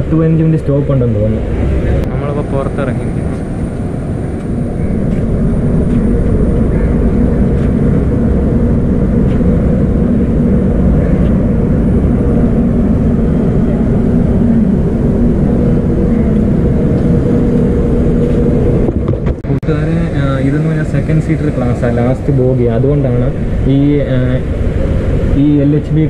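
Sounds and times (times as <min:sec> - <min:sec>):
constant low hum: 0:00.0 - 0:26.0
electric train machinery drone: 0:00.0 - 0:26.0.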